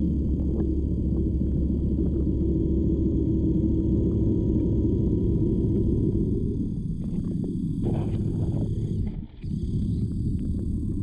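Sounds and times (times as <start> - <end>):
muffled underwater rumble: 0.0 - 11.0.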